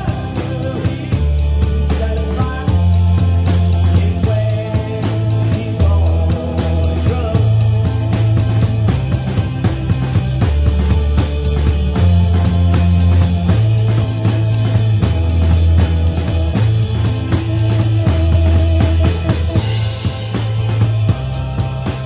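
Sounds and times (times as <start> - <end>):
drum kit playing: 0.0 - 22.0
rock music with guitar and bass: 0.0 - 22.0.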